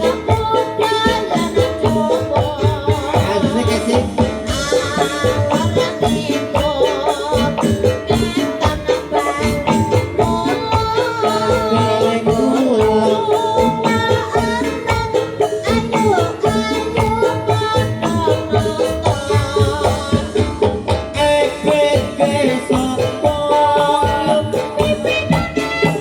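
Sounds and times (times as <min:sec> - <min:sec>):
drums fast beat: 0:00.0 - 0:26.0
sustained melody line: 0:00.0 - 0:26.0.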